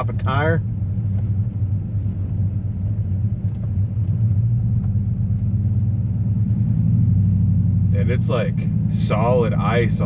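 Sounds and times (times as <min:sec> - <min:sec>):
pickup truck engine and road rumble: 0:00.0 - 0:10.0.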